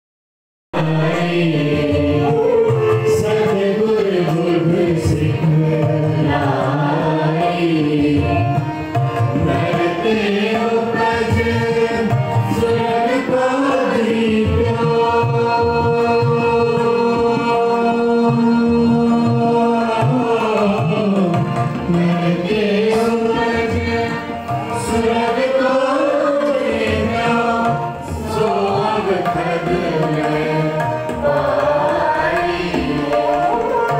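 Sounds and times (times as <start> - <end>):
group singing a hymn: 0.8 - 8.5, 9.3 - 33.9
tabla: 0.8 - 33.9.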